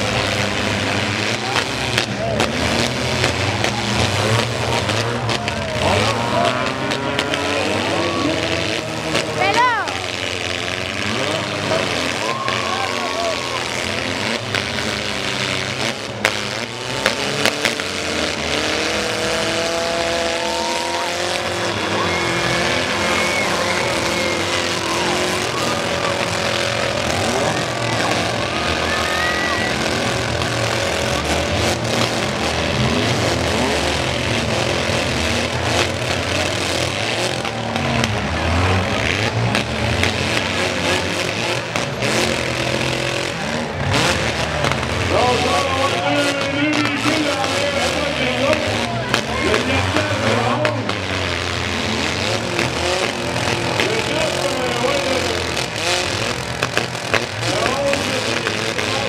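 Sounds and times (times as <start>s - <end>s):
car engines revving: 0.0s - 59.0s
cars crashing: 0.0s - 59.0s.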